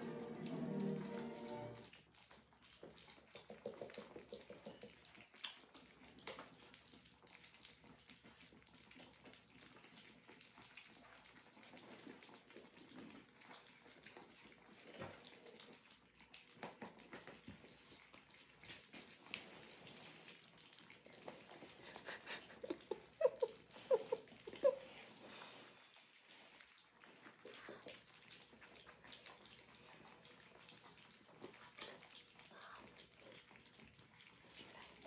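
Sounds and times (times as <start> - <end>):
puppies lapping food: 0.0 - 35.0.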